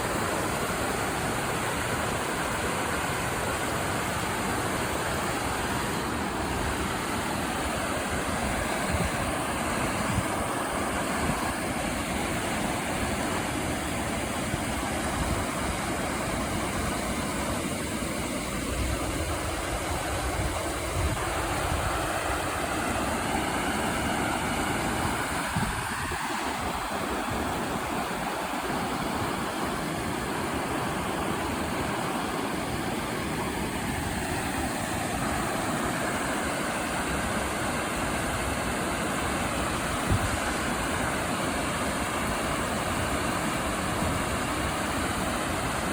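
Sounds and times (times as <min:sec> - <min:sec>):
creek water rushing over rocks: 0:00.0 - 0:45.9.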